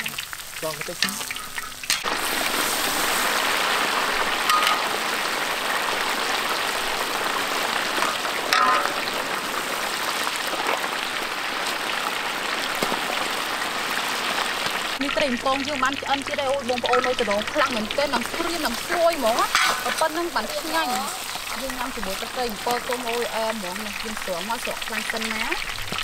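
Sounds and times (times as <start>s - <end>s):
fish deep-frying in hot oil: 0.0s - 26.0s.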